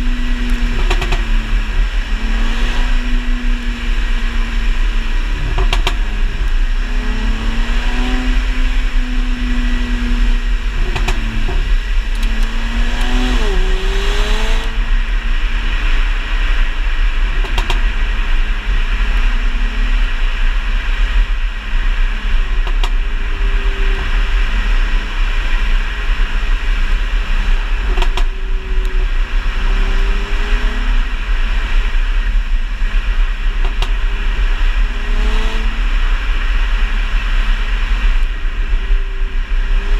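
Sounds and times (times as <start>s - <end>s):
car engine driving: 0.0s - 39.9s
exhaust pops and crackles: 0.0s - 39.9s.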